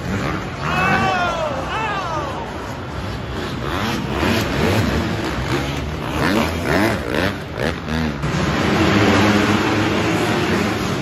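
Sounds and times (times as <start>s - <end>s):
motocross engines revving: 0.0s - 11.0s.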